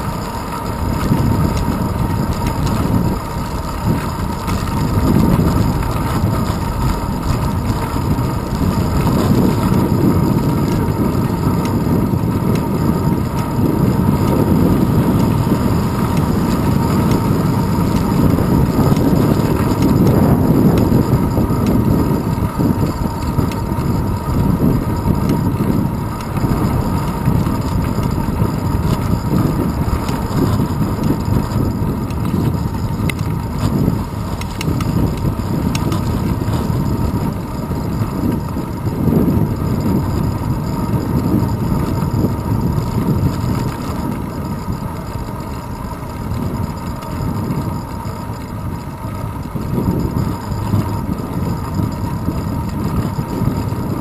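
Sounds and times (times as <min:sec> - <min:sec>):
tyre and road rumble: 0:00.0 - 0:54.0
wind buffeting camera: 0:00.0 - 0:54.0.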